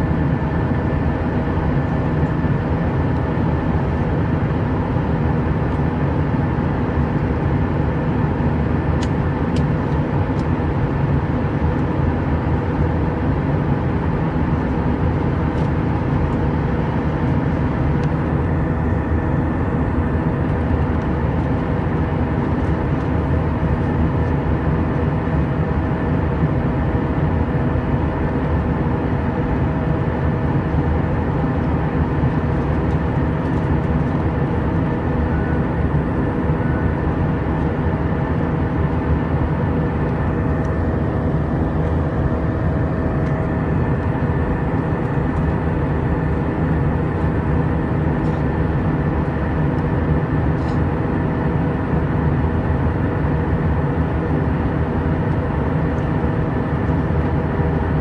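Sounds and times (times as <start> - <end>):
steady engine hum: 0.0 - 58.0.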